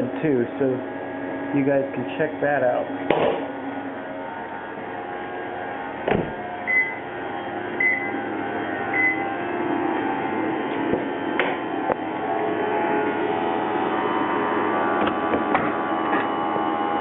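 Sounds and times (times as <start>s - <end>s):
compressor hum and whine: 0.0s - 17.0s.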